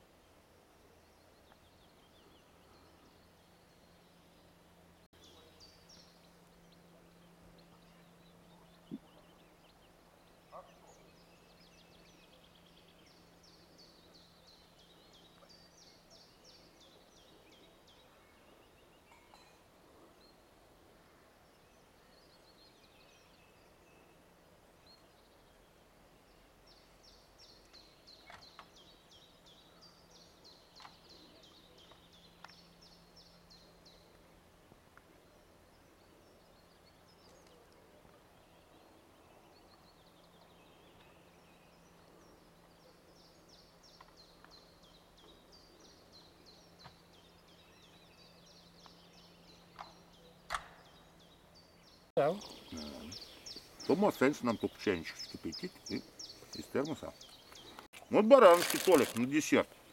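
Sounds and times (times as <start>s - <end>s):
low faint steady hum: 0.0s - 59.9s
songbirds trilling: 0.0s - 59.9s.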